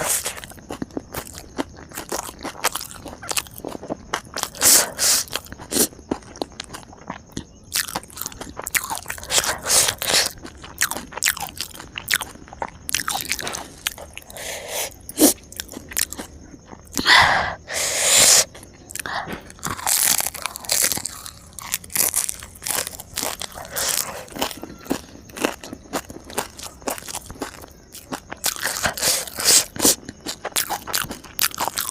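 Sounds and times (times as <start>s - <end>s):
chewing crisp food: 0.0s - 31.9s.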